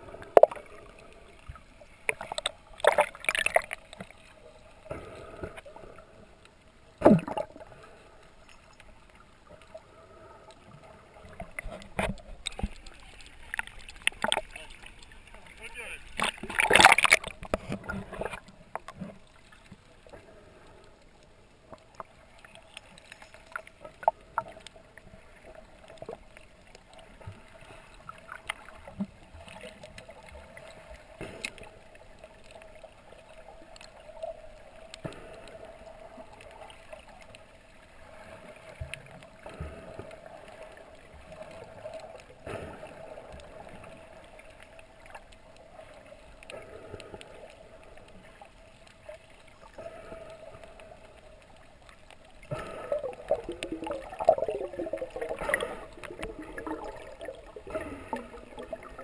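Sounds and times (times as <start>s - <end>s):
boat engine hum underwater: 0.0s - 59.0s.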